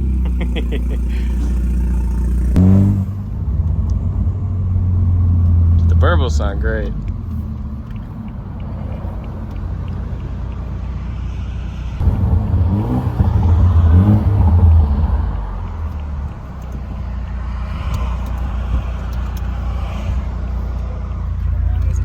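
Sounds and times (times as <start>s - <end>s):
car engine and exhaust drone: 0.0s - 22.0s.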